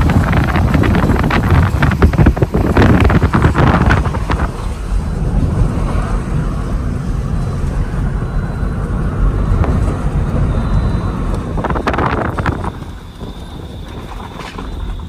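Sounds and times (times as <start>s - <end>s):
car road and engine rumble: 0.0s - 15.0s
wind noise: 0.0s - 15.0s.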